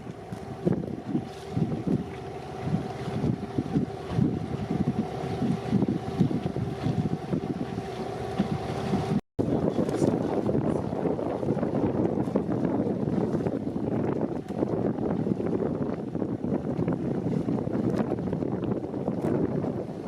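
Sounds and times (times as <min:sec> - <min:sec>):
boat motor humming: 0:00.0 - 0:20.0
wind buffeting microphone: 0:00.0 - 0:20.0.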